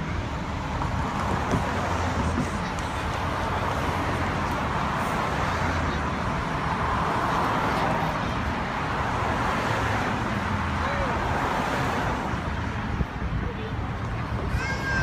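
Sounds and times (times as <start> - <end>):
crowd voices: 0.0 - 15.0
vehicles driving past: 0.0 - 15.0.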